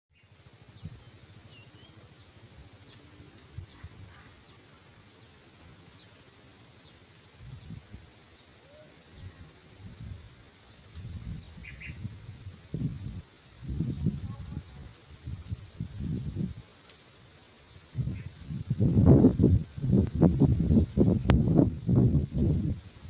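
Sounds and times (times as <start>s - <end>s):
high-pitched insect drone: 0.2s - 23.0s.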